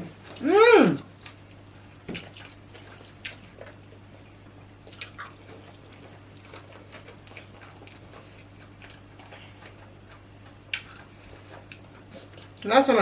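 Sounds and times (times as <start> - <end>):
steady low hum: 0.0 - 13.0
person chewing: 1.0 - 12.7.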